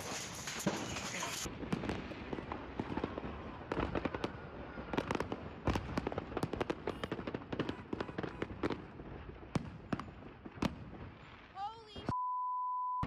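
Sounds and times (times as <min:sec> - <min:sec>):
fireworks bangs and crackles: 0:00.0 - 0:12.1.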